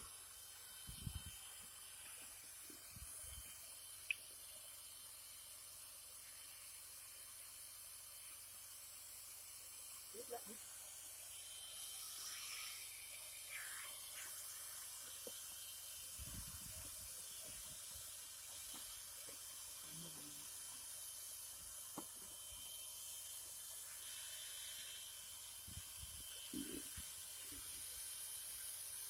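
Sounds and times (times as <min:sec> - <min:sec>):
faint steady whine: 0:00.0 - 0:29.0
hot-air blower hissing: 0:00.0 - 0:29.0.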